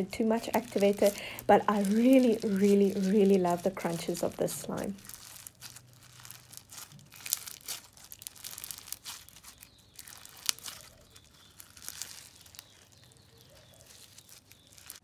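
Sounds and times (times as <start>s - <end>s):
crunchy slime crackling and popping: 0.0s - 15.0s.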